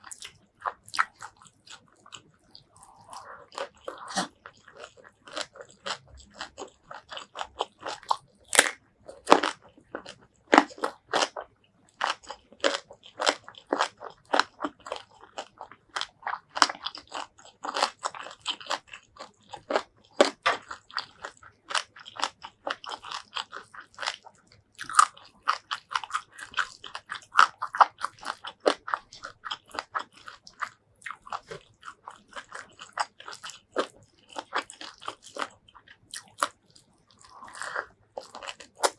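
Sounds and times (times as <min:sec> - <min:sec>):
crunching and wet chewing: 0:00.0 - 0:38.9.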